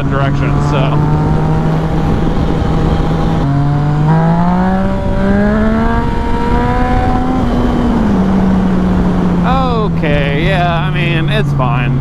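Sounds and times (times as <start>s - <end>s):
motorcycle engine accelerating: 0.0s - 12.0s
wind rushing over microphone: 0.0s - 12.0s.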